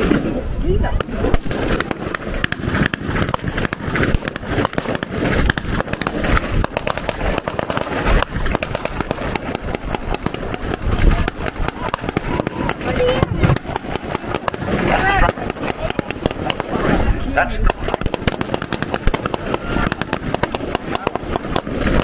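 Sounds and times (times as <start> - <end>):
rapid gunfire: 0.0 - 22.0.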